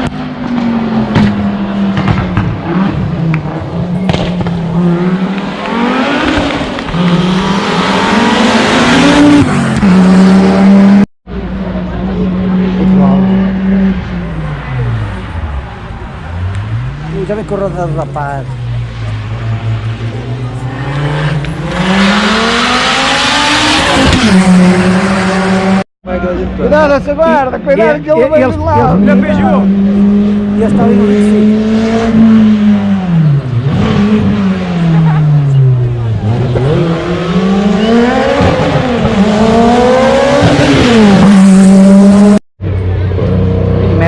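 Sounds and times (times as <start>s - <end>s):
rally car engine revving: 0.0s - 26.8s, 28.4s - 44.0s.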